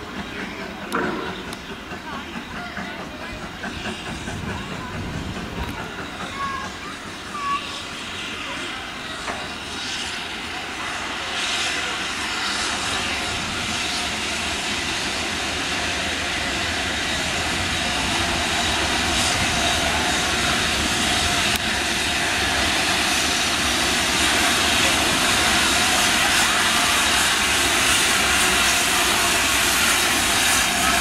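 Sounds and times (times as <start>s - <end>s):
steam locomotive hiss and rumble: 0.0s - 31.0s.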